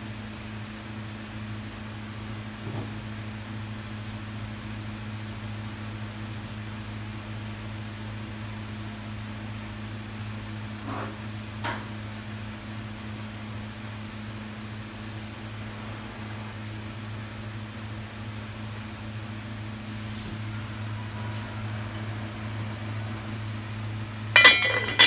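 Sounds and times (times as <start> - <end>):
electric cooktop hum and fan: 0.0 - 25.0.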